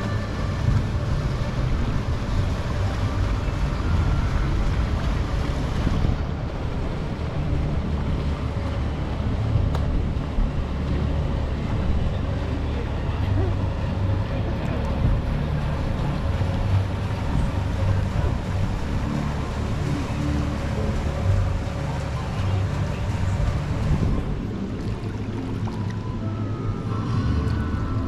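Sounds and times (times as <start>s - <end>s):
water sloshing and lapping: 0.0s - 28.0s
wind rumbling on microphone: 0.0s - 28.0s.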